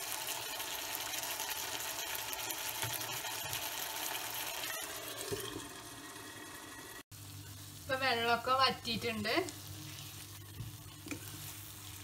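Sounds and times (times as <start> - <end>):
chicken simmering in a pan: 0.0 - 12.0.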